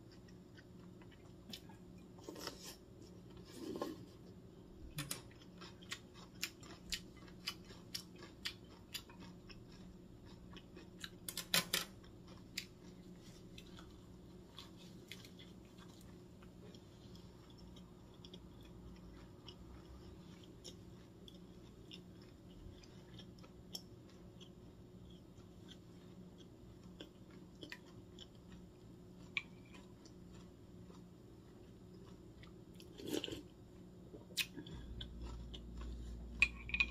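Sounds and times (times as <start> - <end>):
faint low hum: 0.0 - 36.9
person chewing crunchy food: 0.0 - 36.9.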